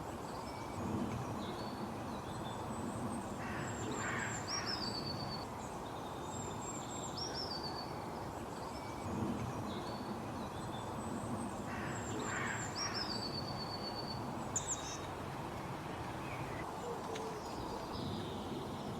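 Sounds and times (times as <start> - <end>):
steady background hiss: 0.0 - 18.9.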